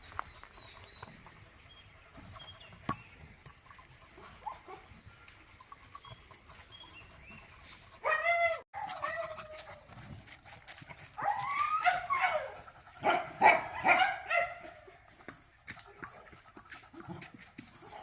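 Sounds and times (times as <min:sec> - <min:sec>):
dogs whining and yelping: 0:01.9 - 0:10.2, 0:11.0 - 0:18.0.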